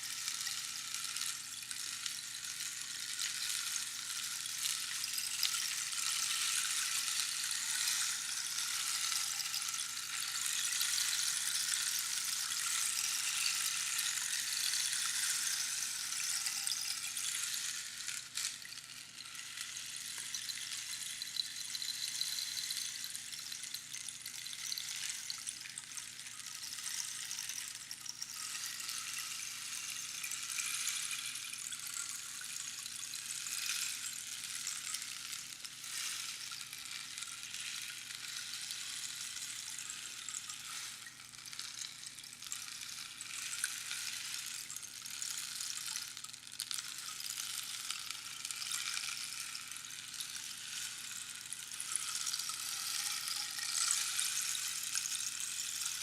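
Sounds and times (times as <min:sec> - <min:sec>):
rainstick trickling hiss: 0:00.0 - 0:56.0.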